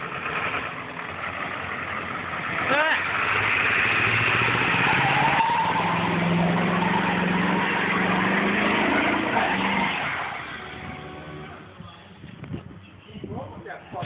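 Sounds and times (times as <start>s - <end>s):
tyres spinning on pavement: 0.0s - 11.7s
truck engine revving high: 0.0s - 11.8s.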